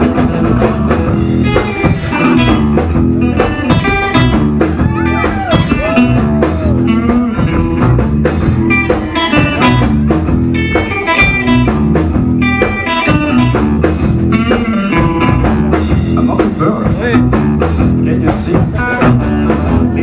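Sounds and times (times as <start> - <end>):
electric guitar with bent notes: 0.0 - 20.0
rock band playing: 0.0 - 20.0.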